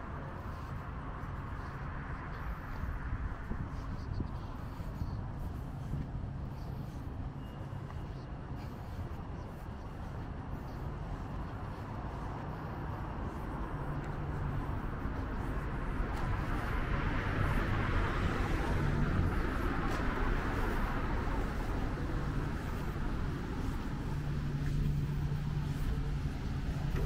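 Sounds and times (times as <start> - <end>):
low engine hum: 0.0 - 27.0
passing vehicle: 0.0 - 27.0.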